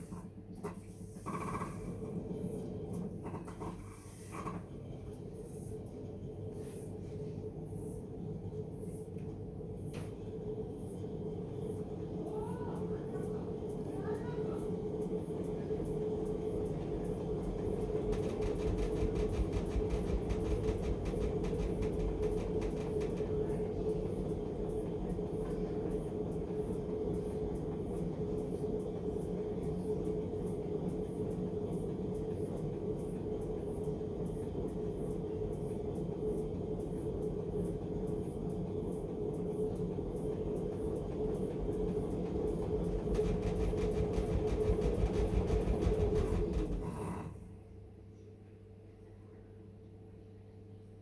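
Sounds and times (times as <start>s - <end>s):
washing machine humming: 0.0s - 47.9s.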